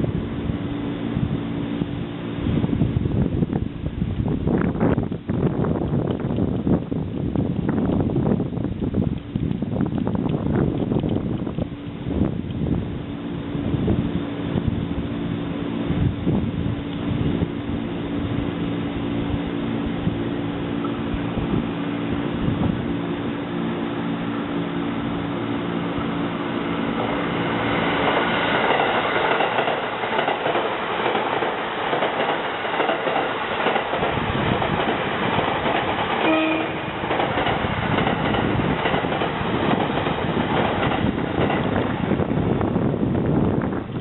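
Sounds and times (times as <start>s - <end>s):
train humming: 0.0s - 44.0s
train running noise and wheel clatter: 0.0s - 44.0s.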